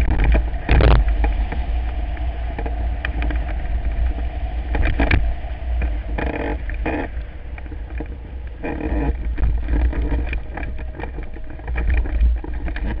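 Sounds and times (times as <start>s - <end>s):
scattered ticks: 0.0s - 13.0s
wind buffeting camera: 0.0s - 13.0s.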